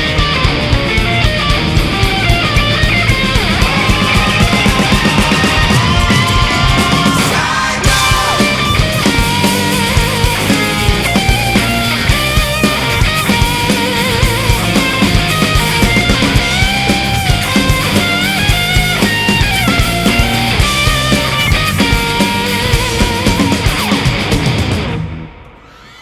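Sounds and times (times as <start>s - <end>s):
bass guitar: 0.0s - 25.7s
driving drum beat: 0.0s - 25.7s
distorted electric guitars: 0.0s - 26.0s.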